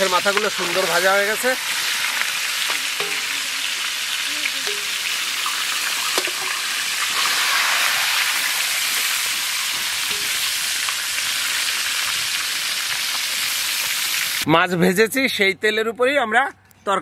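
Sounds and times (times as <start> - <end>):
fish frying in hot oil: 0.0 - 14.4.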